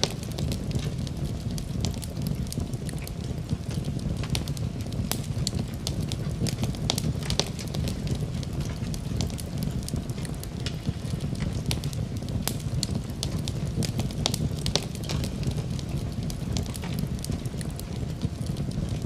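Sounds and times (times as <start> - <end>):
fire crackling and popping: 0.0 - 19.0
low rumble of fire flames: 0.0 - 19.0.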